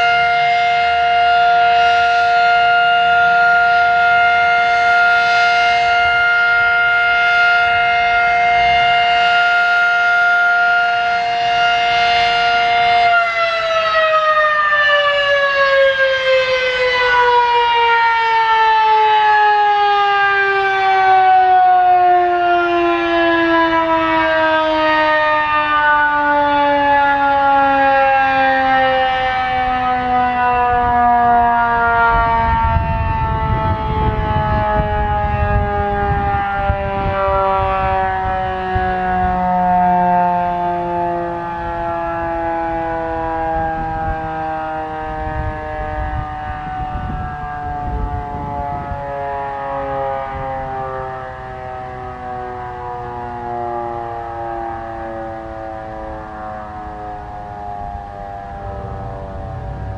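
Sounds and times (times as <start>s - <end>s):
warning siren two-tone chord: 0.0s - 59.9s.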